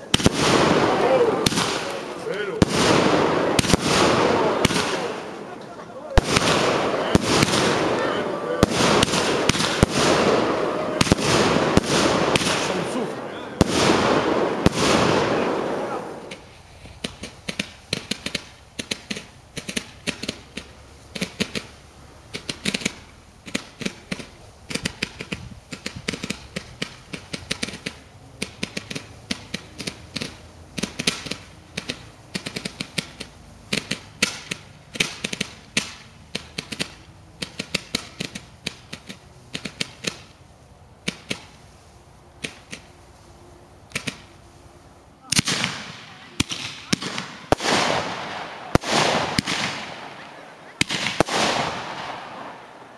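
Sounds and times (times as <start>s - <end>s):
fireworks popping: 0.0s - 43.2s, 43.8s - 52.9s.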